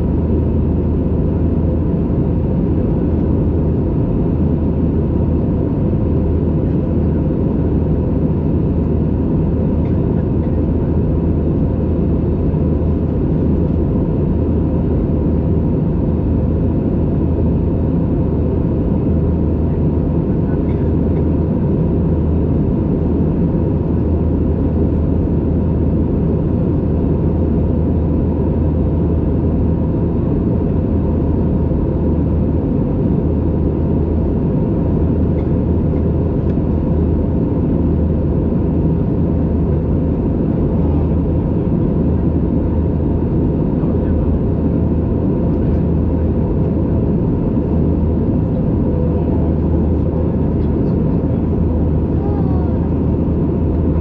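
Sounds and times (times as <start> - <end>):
jet engine deep hum: 0.0 - 54.0.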